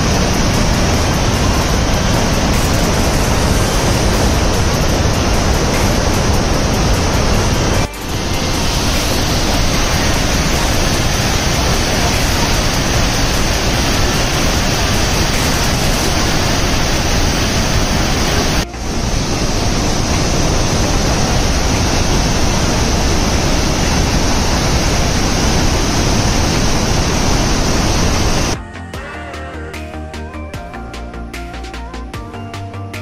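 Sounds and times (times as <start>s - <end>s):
waterfall rushing: 0.0s - 28.6s.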